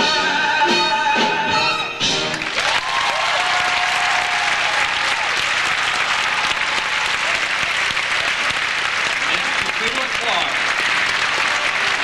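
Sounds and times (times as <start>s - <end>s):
audience applauding: 2.2s - 12.0s
people cheering: 2.3s - 12.0s.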